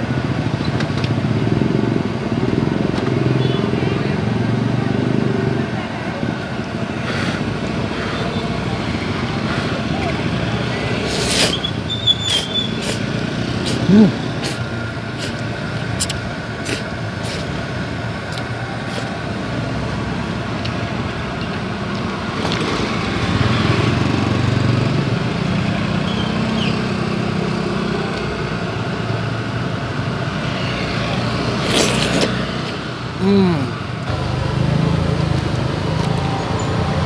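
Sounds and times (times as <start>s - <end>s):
street traffic noise: 0.0s - 37.0s
vehicle engine running: 0.0s - 37.0s.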